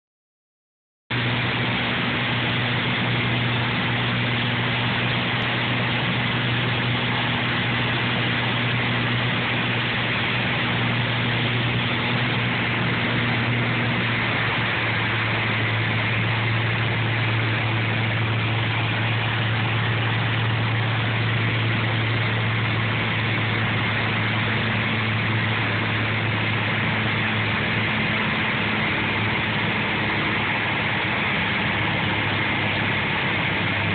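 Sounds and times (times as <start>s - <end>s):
light aircraft engine drone: 1.1s - 33.9s.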